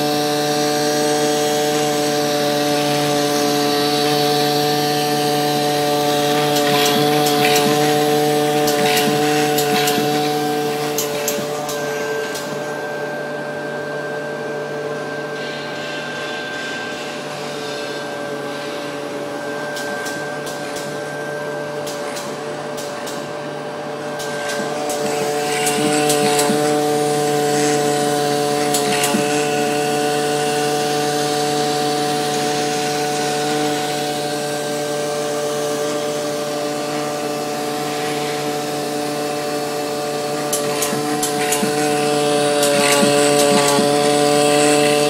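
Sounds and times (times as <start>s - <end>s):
cutting machine whining: 0.0s - 45.0s.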